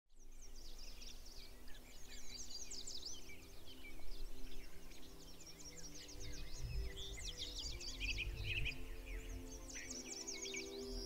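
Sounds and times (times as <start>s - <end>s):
small birds chirping and singing: 0.1s - 11.0s.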